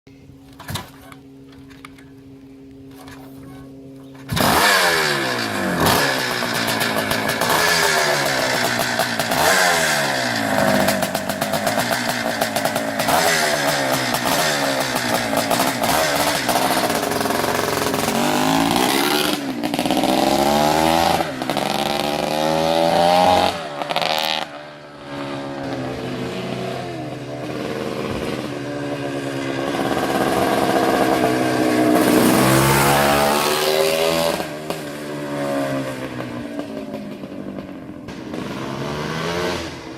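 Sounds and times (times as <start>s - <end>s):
two-stroke engine revving: 4.2s - 39.9s.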